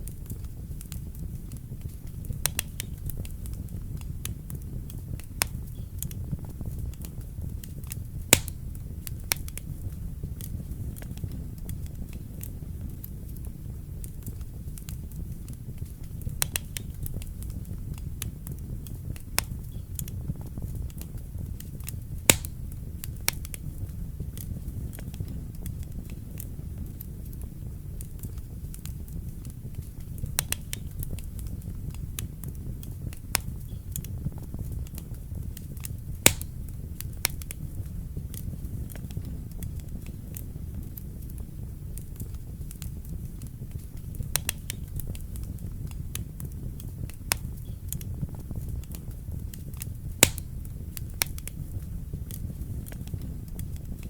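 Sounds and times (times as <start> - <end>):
burning logs crackling and popping: 0.0 - 54.0
wood fire rumbling: 0.0 - 54.0.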